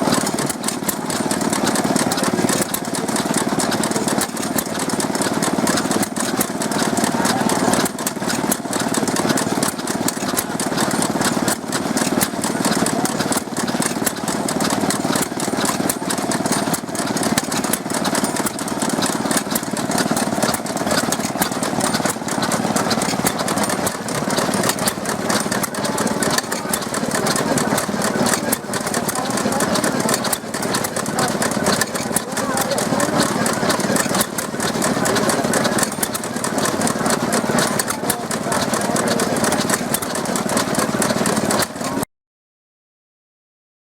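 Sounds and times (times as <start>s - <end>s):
stationary engines running: 0.0s - 42.0s.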